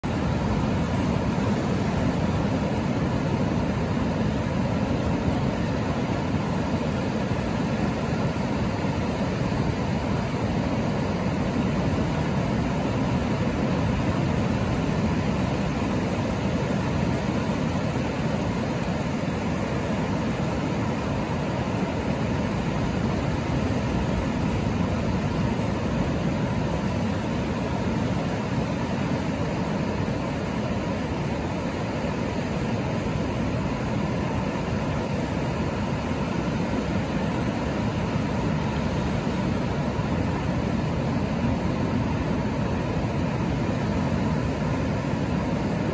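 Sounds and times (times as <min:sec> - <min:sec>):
water washing over sand: 0:00.0 - 0:45.9
waves breaking offshore: 0:00.0 - 0:45.9.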